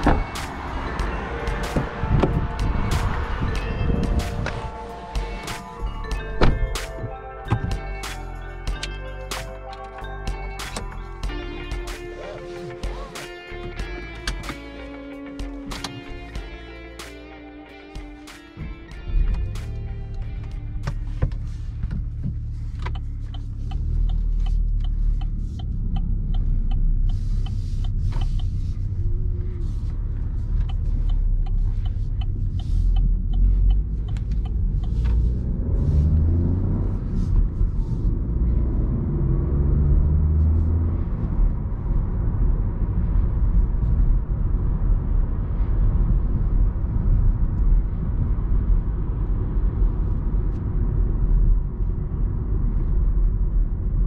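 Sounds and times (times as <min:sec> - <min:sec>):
car engine from inside cabin: 0:00.0 - 0:16.8, 0:18.0 - 0:54.0.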